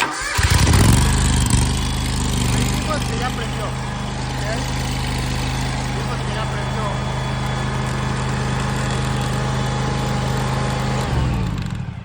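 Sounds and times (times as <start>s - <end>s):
mower engine running: 0.0s - 12.0s.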